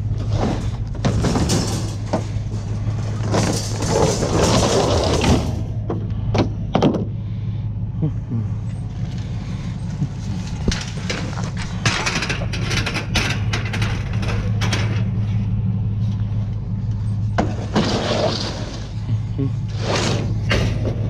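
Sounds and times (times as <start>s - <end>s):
scrap metal clattering and scraping: 0.0s - 7.3s, 8.6s - 21.0s
low engine hum: 0.0s - 21.0s.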